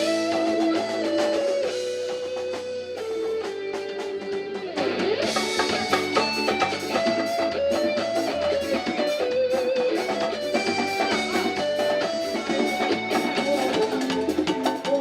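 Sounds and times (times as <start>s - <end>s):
drum kit: 0.0s - 15.0s
electric guitar: 0.0s - 15.0s.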